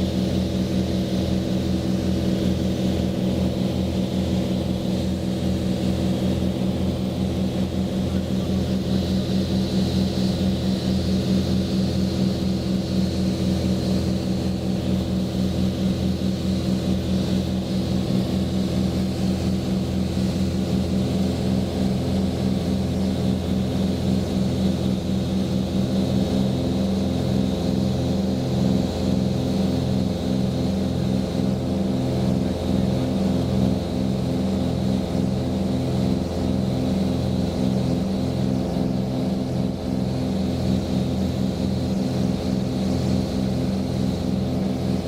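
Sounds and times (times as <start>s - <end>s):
propeller aircraft engines droning: 0.0s - 45.0s.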